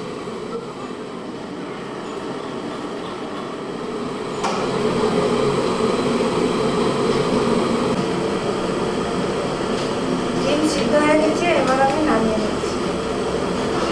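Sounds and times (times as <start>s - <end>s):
water boiling hard: 0.0s - 2.1s, 3.6s - 13.9s
gas stove burner: 0.0s - 13.9s.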